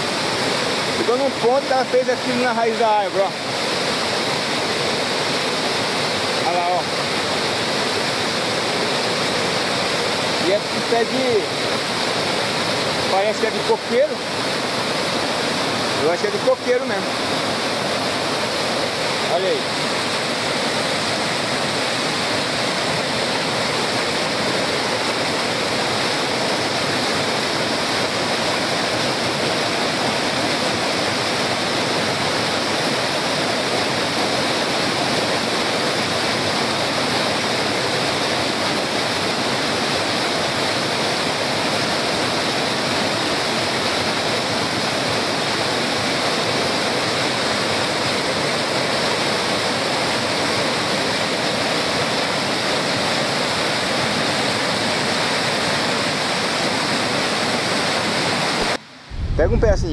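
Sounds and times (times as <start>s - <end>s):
waterfall crashing over rocks: 0.0s - 59.9s.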